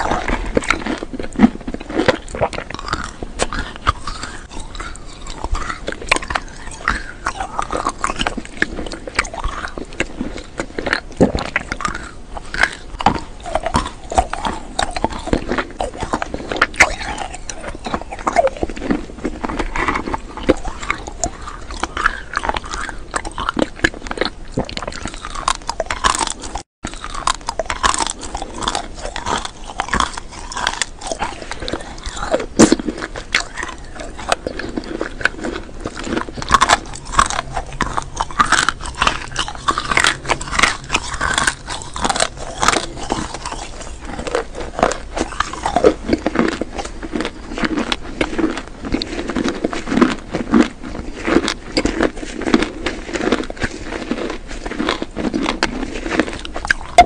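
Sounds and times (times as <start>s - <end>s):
chewing crunchy candy: 0.0s - 57.0s.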